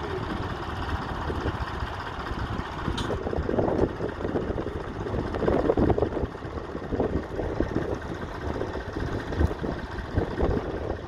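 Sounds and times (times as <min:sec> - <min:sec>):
tractor engine running unevenly: 0:00.0 - 0:11.0.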